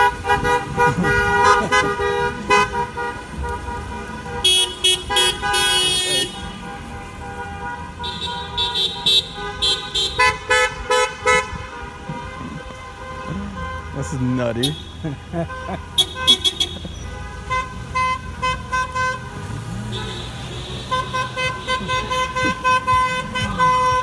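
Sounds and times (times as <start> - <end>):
car horns honking: 0.0 - 24.0.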